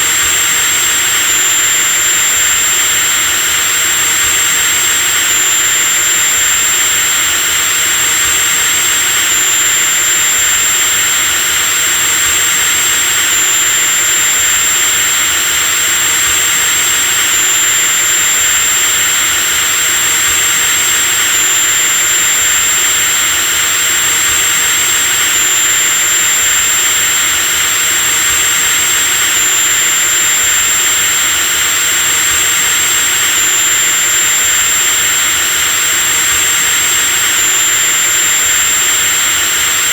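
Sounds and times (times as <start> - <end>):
electric drill motor whining: 0.0 - 39.9.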